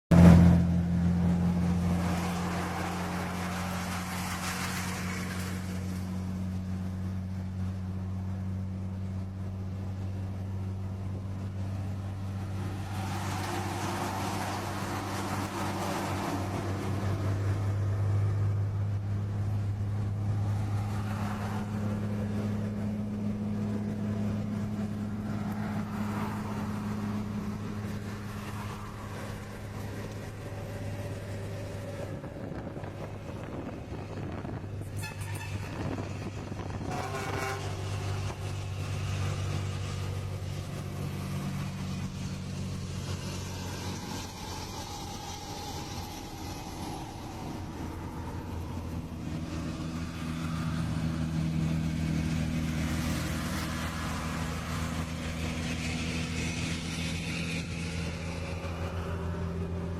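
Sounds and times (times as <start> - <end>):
heavy vehicle engine droning: 0.1 - 59.9.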